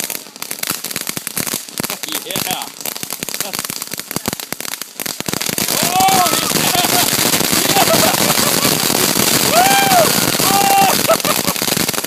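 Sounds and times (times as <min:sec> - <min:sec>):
ground firework crackling: 0:00.0 - 0:12.0.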